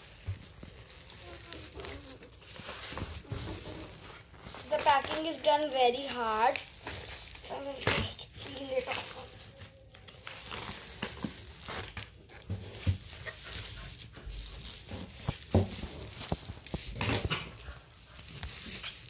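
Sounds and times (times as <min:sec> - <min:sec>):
bubble wrap crinkling and tearing: 0:00.0 - 0:19.0.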